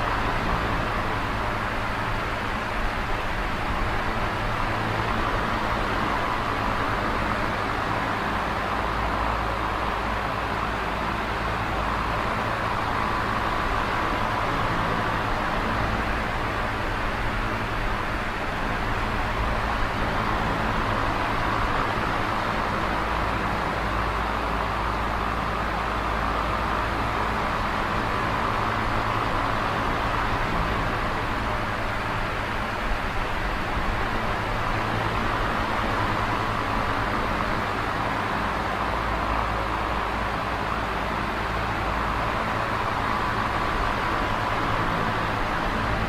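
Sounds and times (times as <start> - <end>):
box fan air rush: 0.0 - 46.0
low fan hum: 0.0 - 46.0.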